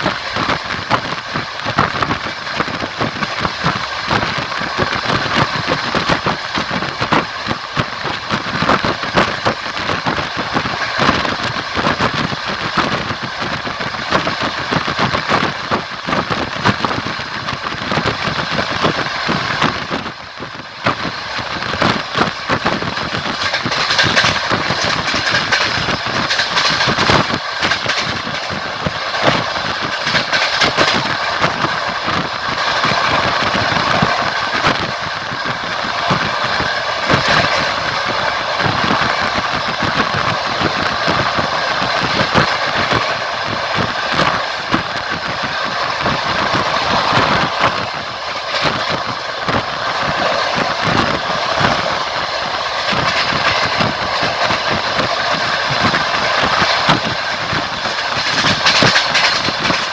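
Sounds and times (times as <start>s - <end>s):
train rumbling and rattling: 0.0s - 59.9s
wheels clattering over rails: 0.0s - 59.9s.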